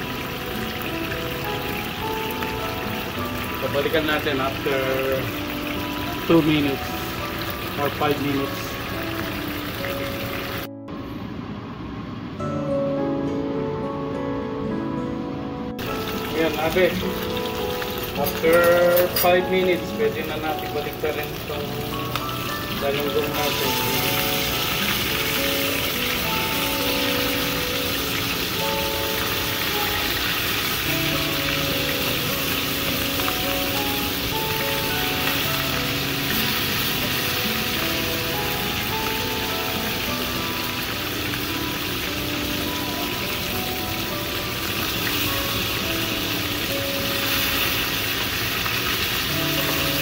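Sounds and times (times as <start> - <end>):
fish sizzling in hot oil: 0.0 - 10.7, 15.8 - 50.0
light background music: 0.0 - 50.0.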